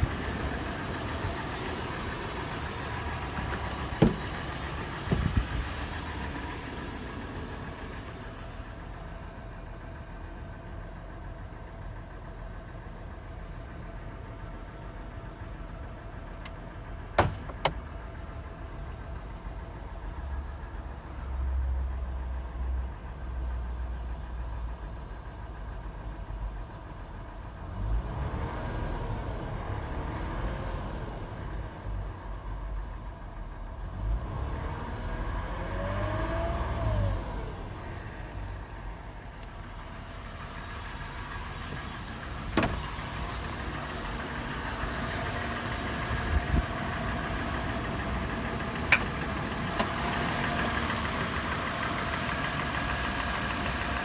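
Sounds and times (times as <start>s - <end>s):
engine idling with clattering: 0.0s - 28.0s, 31.6s - 34.1s, 37.6s - 54.0s.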